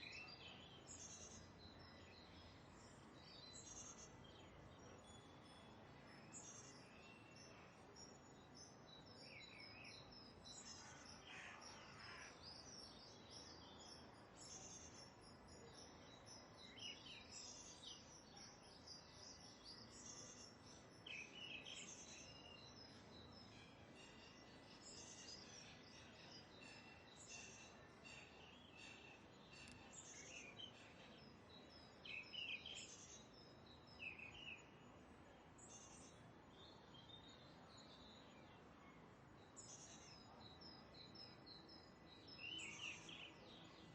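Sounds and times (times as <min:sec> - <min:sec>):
low background hiss: 0:00.0 - 0:43.9.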